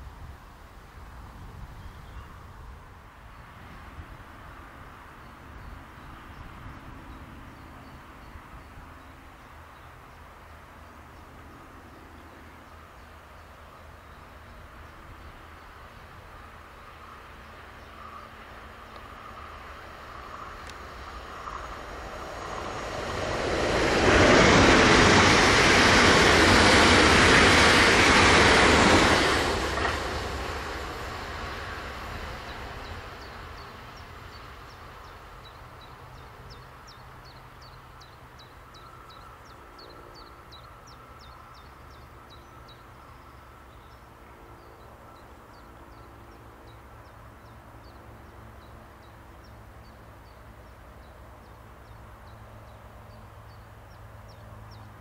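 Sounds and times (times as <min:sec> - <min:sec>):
electric train passing: 0:02.2 - 0:55.0
wheels rushing on rails: 0:02.2 - 0:55.0.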